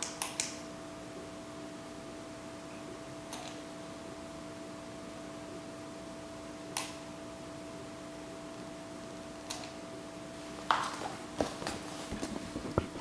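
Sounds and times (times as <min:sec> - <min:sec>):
two-tone electrical hum with hiss: 0:00.0 - 0:13.0.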